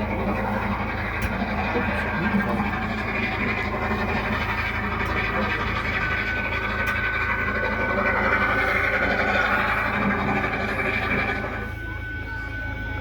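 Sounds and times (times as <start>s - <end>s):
high whine: 0.0s - 13.0s
train rumbling past: 0.0s - 13.0s.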